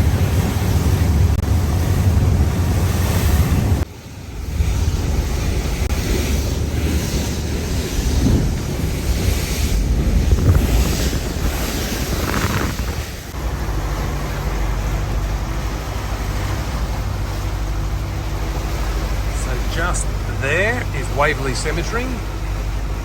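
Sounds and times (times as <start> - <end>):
wind buffeting microphone: 0.0 - 20.3
low engine drone: 0.0 - 23.0
rushing water: 0.0 - 23.0.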